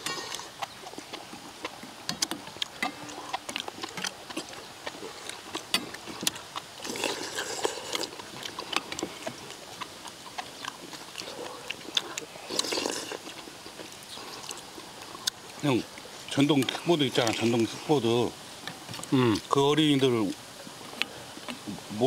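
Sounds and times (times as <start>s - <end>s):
chewing: 0.0s - 21.8s
slurping stew: 0.0s - 22.0s.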